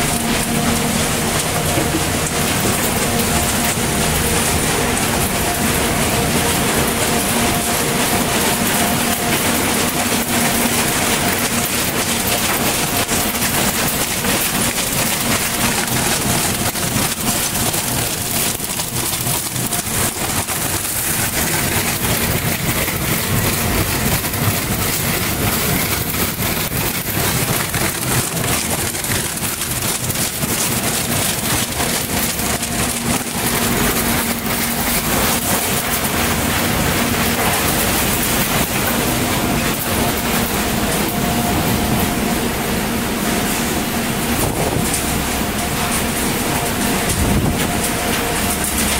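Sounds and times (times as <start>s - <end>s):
machinery hum: 0.0s - 48.9s
recycling machinery din: 0.0s - 48.9s.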